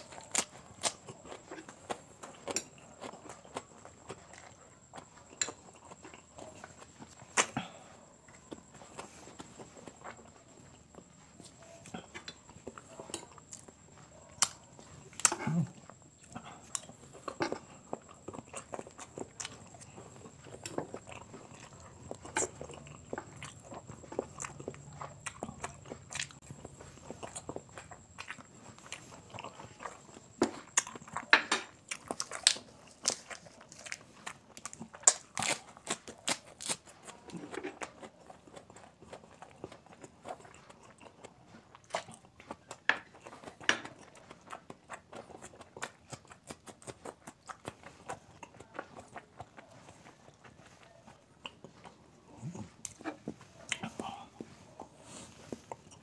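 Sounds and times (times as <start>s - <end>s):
wet chewing clicks and crunches: 0.0s - 56.0s.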